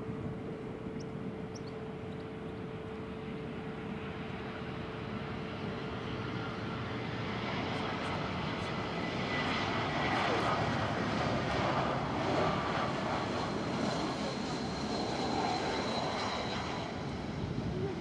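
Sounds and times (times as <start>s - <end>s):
jet engines rushing hum: 0.0s - 18.0s.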